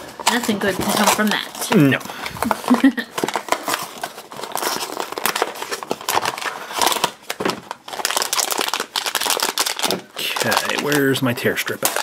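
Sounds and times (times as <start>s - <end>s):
cardboard packaging crinkling: 0.0s - 12.0s.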